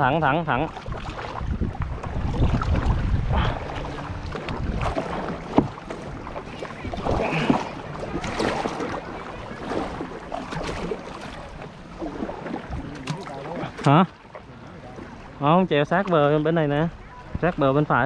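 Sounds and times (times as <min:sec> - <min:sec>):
wind buffeting the microphone: 0:00.0 - 0:13.1, 0:16.6 - 0:18.0
kayak paddles splashing: 0:00.0 - 0:18.0.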